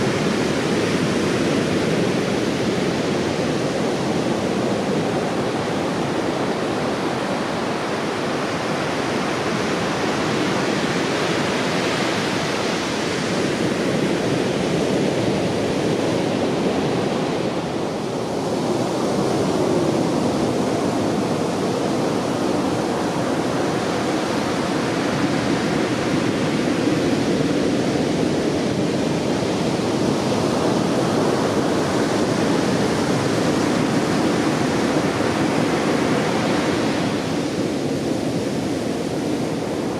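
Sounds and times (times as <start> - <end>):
heavy surf breaking on beach: 0.0 - 39.9.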